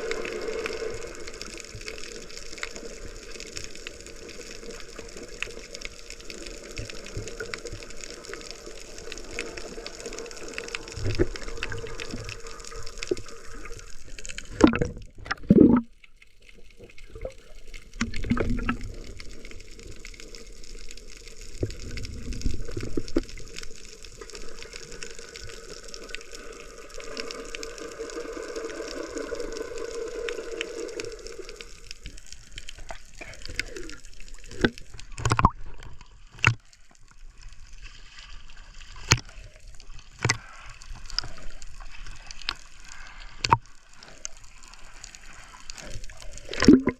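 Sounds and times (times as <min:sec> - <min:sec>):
water sloshing and gurgling: 0:00.0 - 0:46.9.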